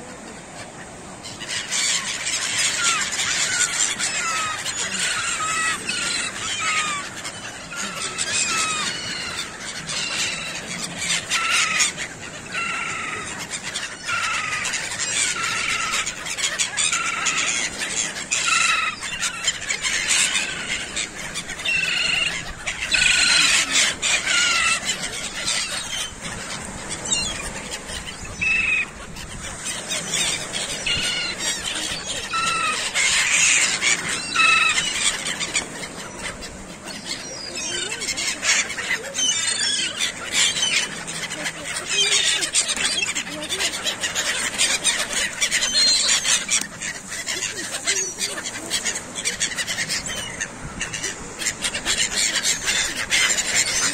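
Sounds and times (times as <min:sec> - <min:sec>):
gulls squealing: 0:00.0 - 0:53.9.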